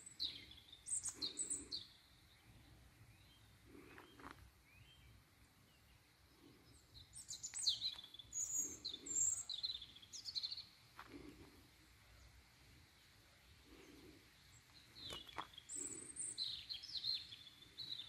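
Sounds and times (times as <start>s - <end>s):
faint outdoor background noise: 0.0s - 18.0s
songbird singing: 0.0s - 18.0s.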